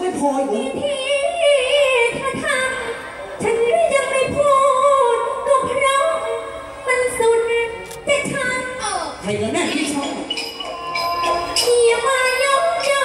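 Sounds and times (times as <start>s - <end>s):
woman singing into microphone: 0.0s - 10.0s, 11.2s - 13.0s.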